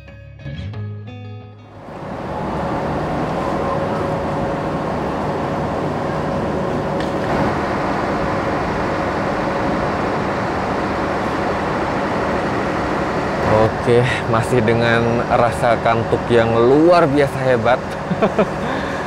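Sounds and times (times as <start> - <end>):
diesel train engine droning: 1.6 - 19.0.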